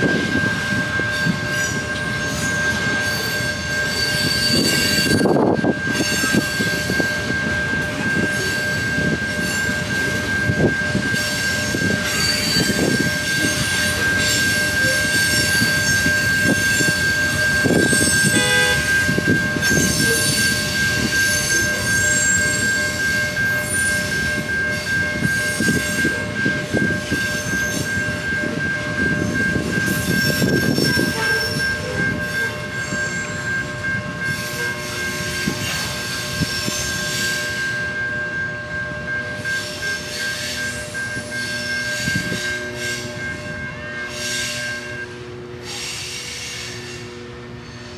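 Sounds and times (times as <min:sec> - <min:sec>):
high-pitched wheel squeal: 0:00.1 - 0:47.9.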